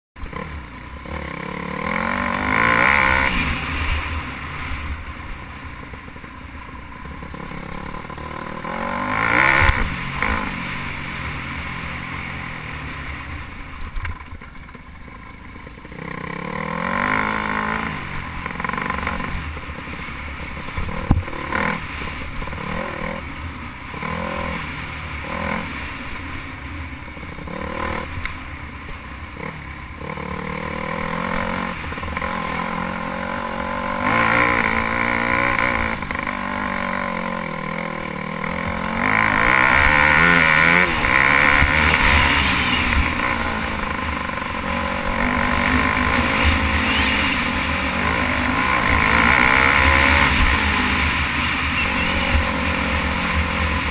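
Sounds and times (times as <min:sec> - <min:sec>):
dirt bike engine revving: 0:00.2 - 0:06.2, 0:06.8 - 0:26.5, 0:27.1 - 0:28.4, 0:29.3 - 0:53.9.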